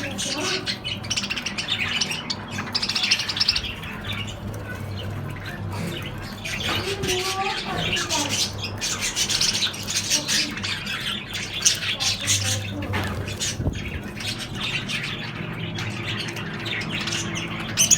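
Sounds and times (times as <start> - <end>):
birds chirping and squawking: 0.0 - 17.9.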